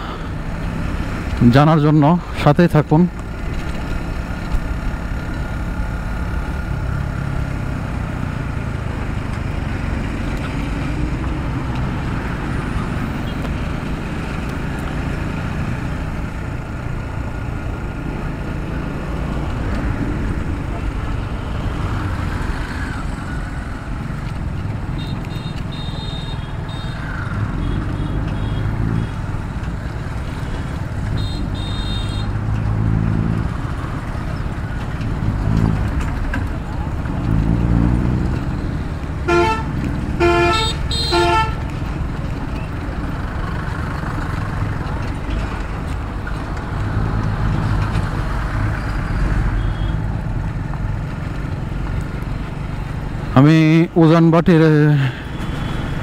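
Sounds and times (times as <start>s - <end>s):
heavy vehicles passing: 0.0s - 56.0s
road and wind noise: 0.0s - 56.0s
motorcycle engine: 3.2s - 53.8s.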